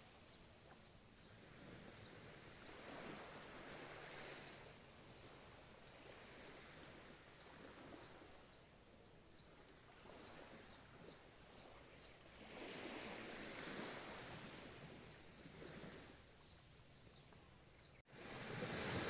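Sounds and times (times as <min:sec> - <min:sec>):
ocean waves washing on shore: 0:01.2 - 0:08.6, 0:09.4 - 0:16.6, 0:18.1 - 0:19.0.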